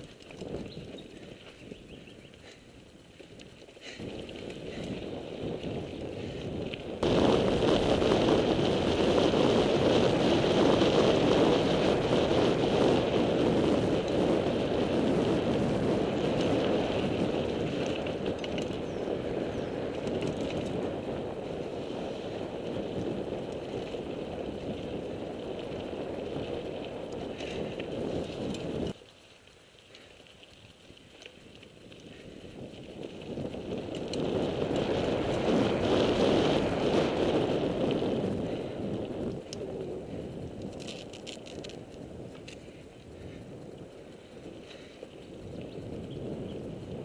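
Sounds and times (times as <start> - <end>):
wind on microphone: 0.0 - 29.0, 30.0 - 47.0
bike rattling: 0.0 - 47.0
bike tyres rushing on gravel: 0.0 - 47.0.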